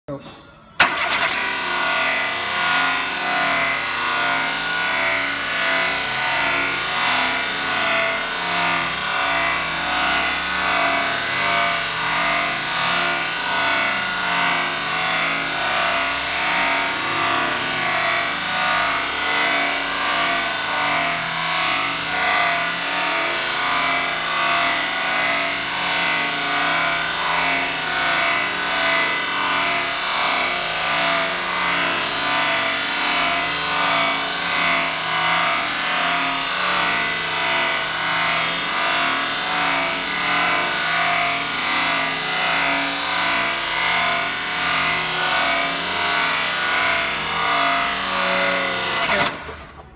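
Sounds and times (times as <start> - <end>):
misfiring car engine pulsing: 0.8 - 49.9.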